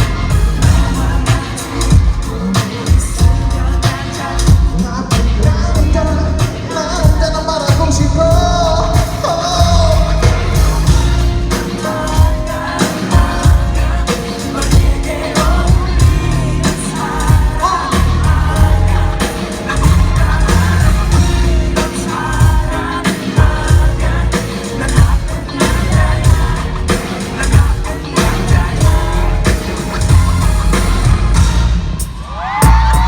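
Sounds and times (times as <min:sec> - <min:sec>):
person singing live: 0:00.0 - 0:33.0
pop band with steady beat: 0:00.0 - 0:33.0.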